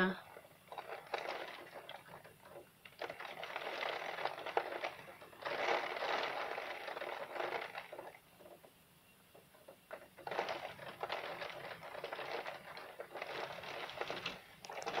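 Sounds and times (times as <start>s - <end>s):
heavy rain pattering: 0.0s - 8.6s, 9.6s - 15.0s.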